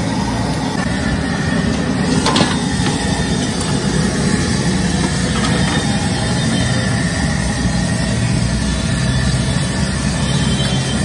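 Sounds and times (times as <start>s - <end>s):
food bubbling in hot oil: 0.0s - 11.0s.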